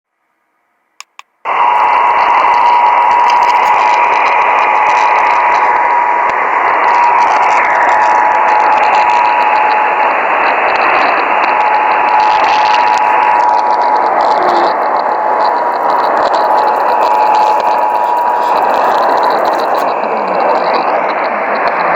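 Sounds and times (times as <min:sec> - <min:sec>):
radio static hiss: 0:01.0 - 0:21.9.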